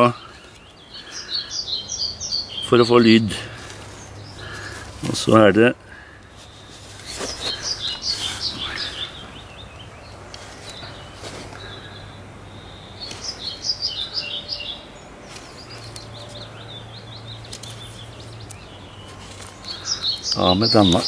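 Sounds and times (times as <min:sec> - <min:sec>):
outdoor background noise: 0:00.0 - 0:21.0
songbird chirping: 0:00.0 - 0:21.0.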